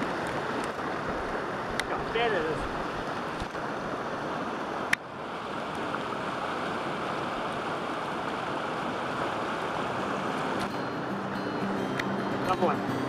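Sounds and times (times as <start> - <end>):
river running over stones: 0.0 - 13.0.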